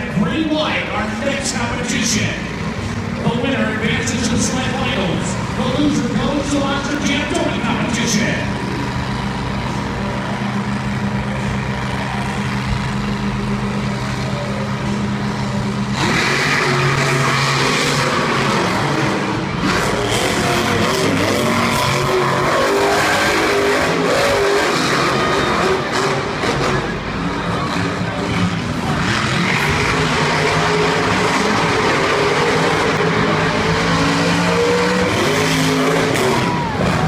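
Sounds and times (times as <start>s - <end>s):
engines revving hard: 0.0s - 37.0s
monster truck engines idling: 0.0s - 37.0s.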